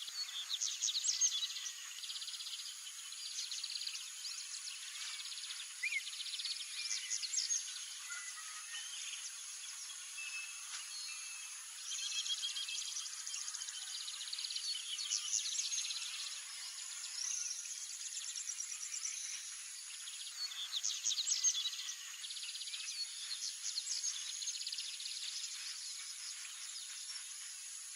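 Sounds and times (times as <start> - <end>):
songbirds chirping and trilling: 0.0 - 27.9.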